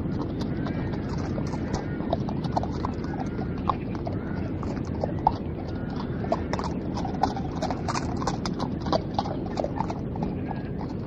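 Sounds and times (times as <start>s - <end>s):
horse hooves clip-clopping: 0.0s - 11.0s
steady rushing noise: 0.0s - 11.0s.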